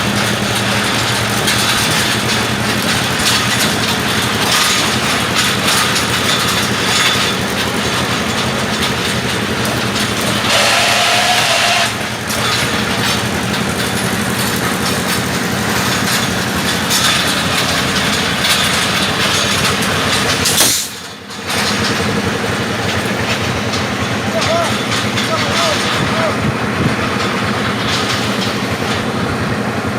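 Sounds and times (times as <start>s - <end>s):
rebar bending machine running: 0.0s - 29.9s.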